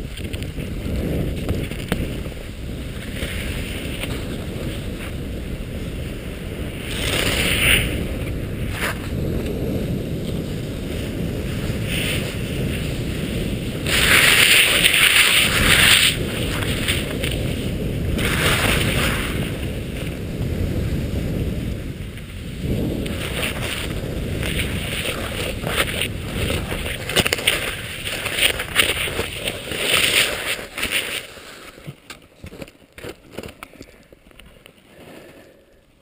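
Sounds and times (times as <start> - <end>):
wind on microphone: 0.0 - 32.0
crunches and knocks in snow: 0.0 - 35.5
skis scraping over snow: 0.0 - 35.6.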